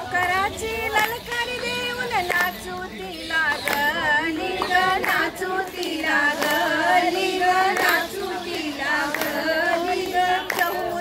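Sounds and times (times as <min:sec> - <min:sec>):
women singing in unison: 0:00.0 - 0:11.0
handclaps keeping time: 0:00.2 - 0:11.0.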